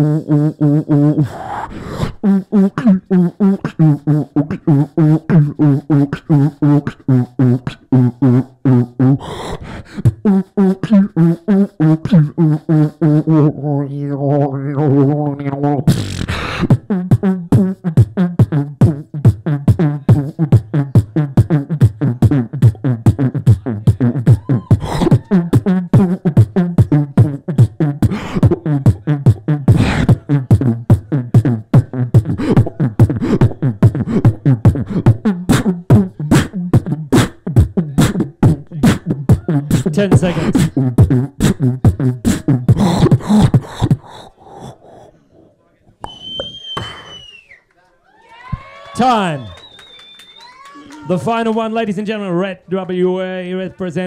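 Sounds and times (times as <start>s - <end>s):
beatboxing mouth percussion: 0.0s - 47.4s.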